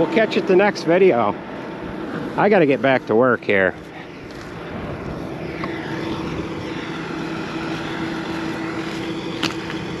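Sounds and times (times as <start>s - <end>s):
tractor engine drone: 0.0s - 10.0s.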